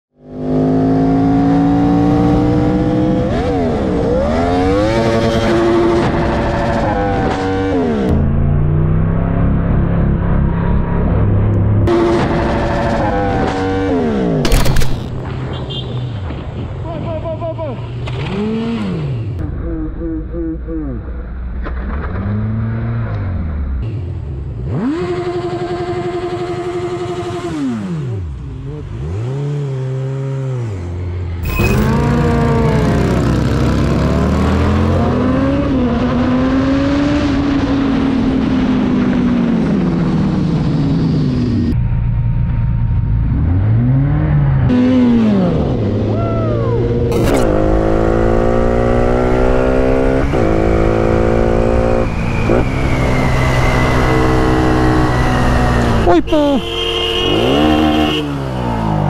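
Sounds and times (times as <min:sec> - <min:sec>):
motorcycle engine revving: 0:00.2 - 0:10.8, 0:17.9 - 0:21.0, 0:21.7 - 0:59.0.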